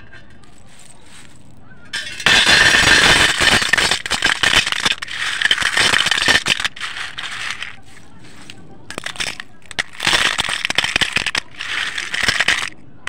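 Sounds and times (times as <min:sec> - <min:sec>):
clay shards clattering on metal: 0:01.9 - 0:12.7.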